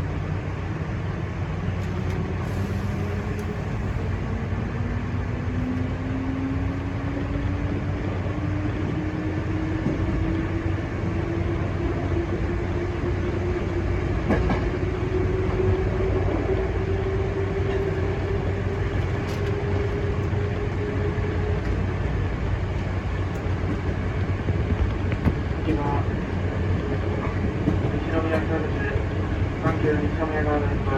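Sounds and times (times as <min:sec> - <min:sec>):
train wheels rumbling on rails: 0:00.1 - 0:30.9.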